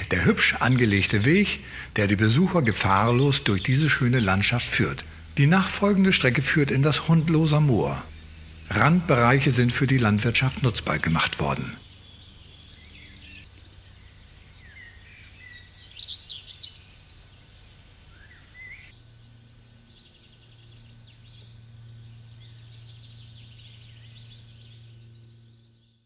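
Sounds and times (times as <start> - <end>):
low steady hum: 0.0 - 26.0
songbirds singing and chirping: 0.0 - 26.0.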